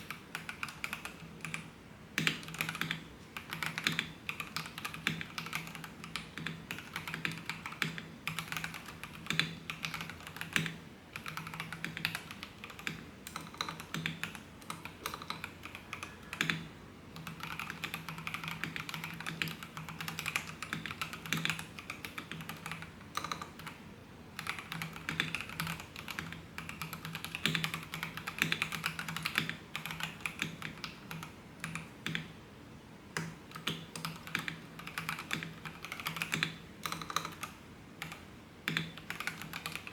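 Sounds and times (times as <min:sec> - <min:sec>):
mechanical keyboard typing: 0:00.0 - 0:32.4, 0:33.2 - 0:39.9.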